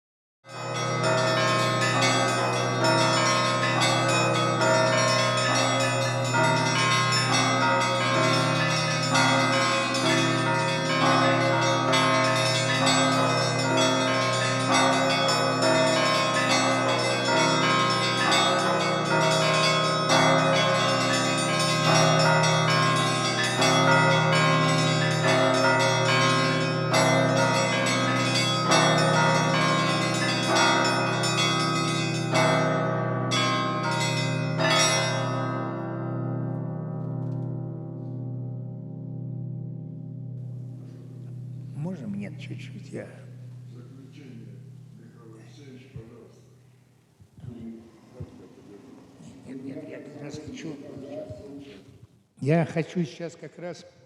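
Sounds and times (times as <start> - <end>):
church bells ringing a peal: 0.5 - 46.2.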